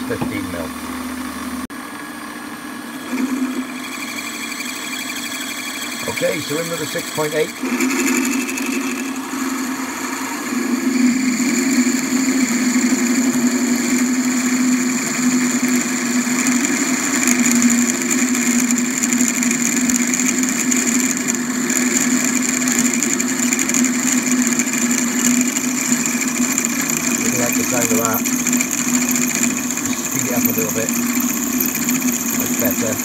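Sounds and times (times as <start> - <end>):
metal lathe drilling with whine: 2.8 - 33.0.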